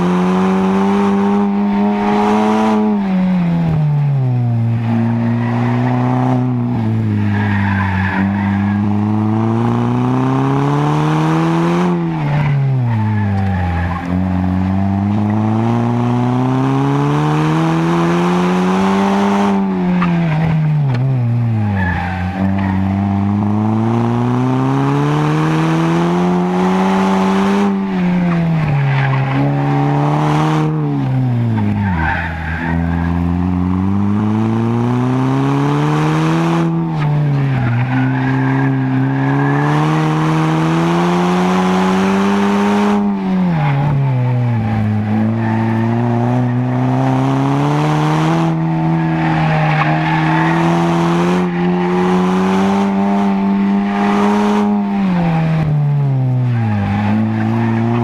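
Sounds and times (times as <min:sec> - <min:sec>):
car engine revving: 0:00.0 - 0:58.0
tires squealing: 0:00.0 - 0:58.0.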